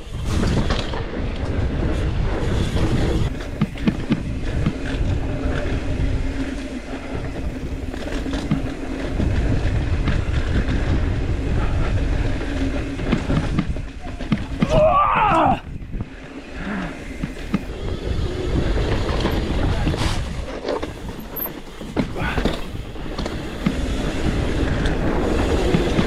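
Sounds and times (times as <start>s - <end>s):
bike tyres rumbling on dirt: 0.0s - 26.0s
wind on microphone: 0.0s - 26.0s
bike rattling and knocking: 0.2s - 26.0s.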